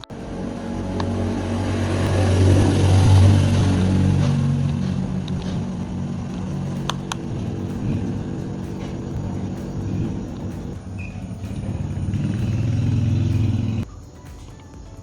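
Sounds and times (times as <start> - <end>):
motor humming: 0.0 - 13.9.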